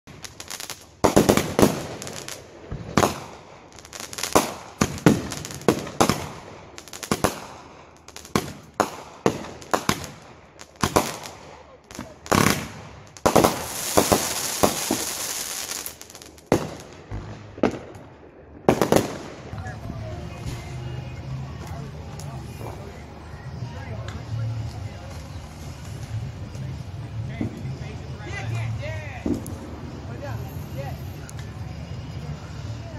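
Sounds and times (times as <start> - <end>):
fireworks bangs: 0.0 - 32.8
fireworks crackling hiss: 0.0 - 32.9.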